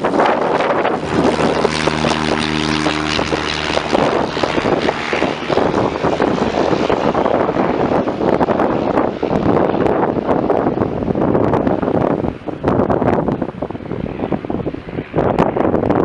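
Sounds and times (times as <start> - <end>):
propeller airplane engine drone: 0.0 - 16.0
wind buffeting microphone: 0.0 - 16.0.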